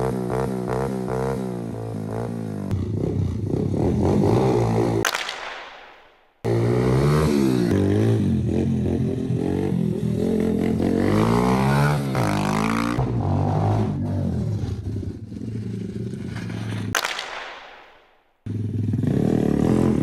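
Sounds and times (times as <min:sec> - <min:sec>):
motorbike engine revving: 0:00.0 - 0:05.1, 0:06.4 - 0:17.0, 0:18.4 - 0:20.0.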